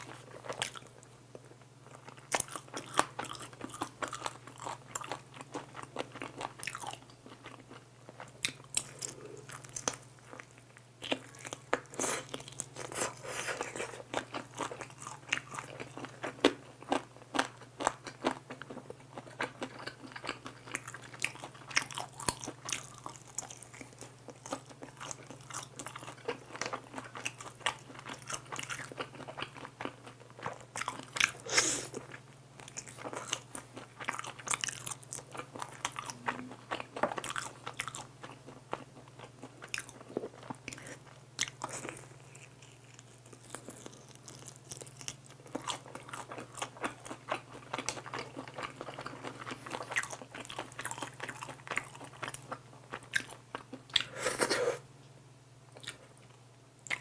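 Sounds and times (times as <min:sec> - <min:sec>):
biting and chewing fried chicken: 0:00.0 - 0:54.2, 0:55.7 - 0:57.0.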